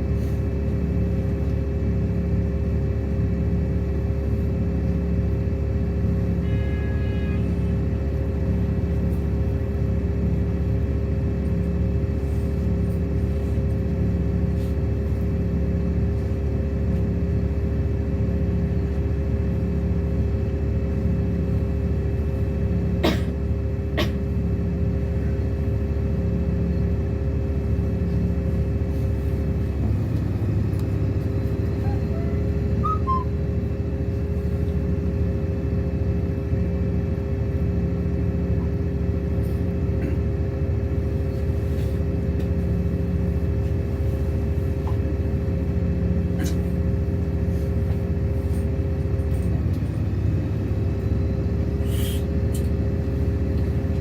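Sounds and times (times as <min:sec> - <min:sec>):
bus engine rumble: 0:00.0 - 0:54.0
constant whine: 0:00.0 - 0:54.0.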